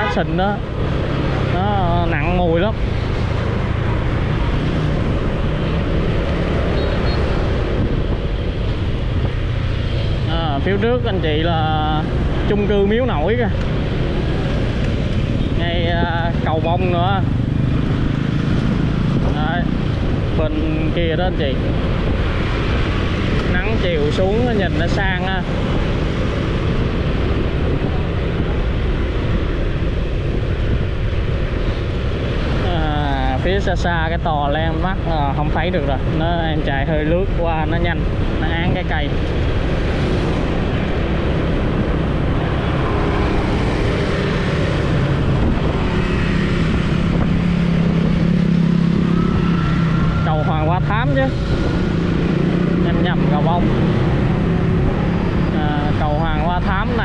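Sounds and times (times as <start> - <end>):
motorbike road noise: 0.0 - 57.0
wind rumble on microphone: 0.0 - 57.0.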